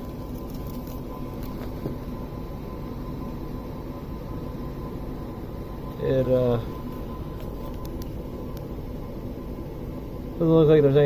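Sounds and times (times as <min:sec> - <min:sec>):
thin steady tone: 0:00.0 - 0:11.0.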